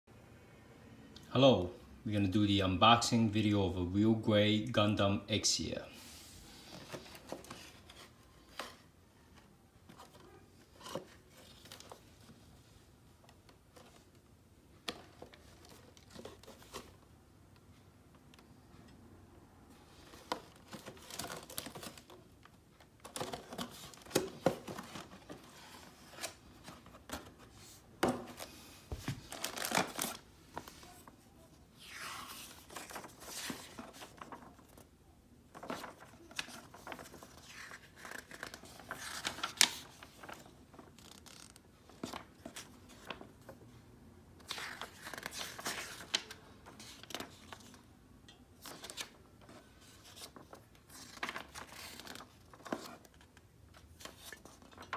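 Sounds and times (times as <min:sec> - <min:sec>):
paper pages rustling: 0:06.0 - 0:14.2, 0:14.8 - 0:17.0, 0:19.9 - 0:43.6, 0:44.4 - 0:47.9, 0:48.6 - 0:54.9.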